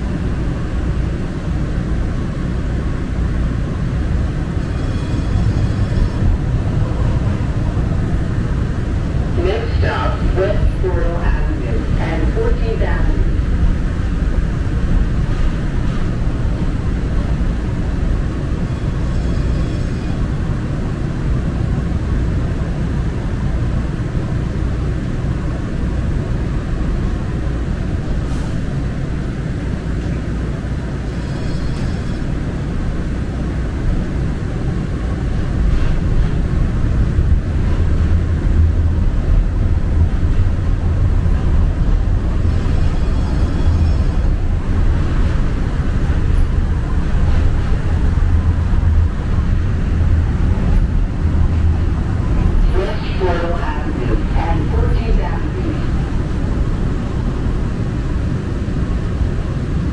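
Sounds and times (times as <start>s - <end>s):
train rumbling from inside car: 0.0s - 59.9s.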